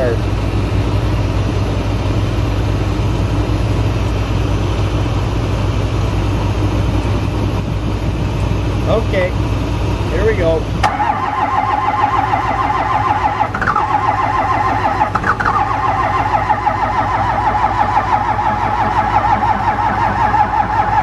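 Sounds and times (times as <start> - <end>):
diesel engine cranking: 0.0 - 21.0.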